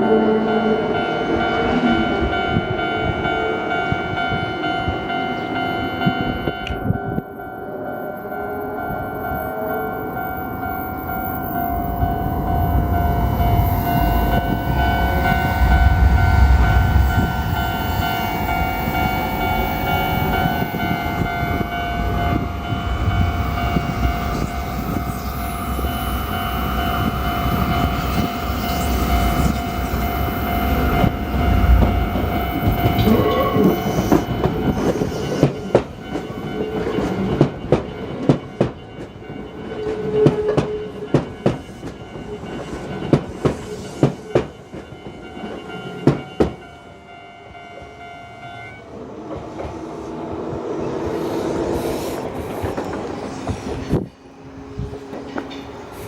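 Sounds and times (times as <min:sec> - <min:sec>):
level-crossing warning bell ringing: 0:00.0 - 0:56.0
train rumble: 0:00.0 - 0:56.0.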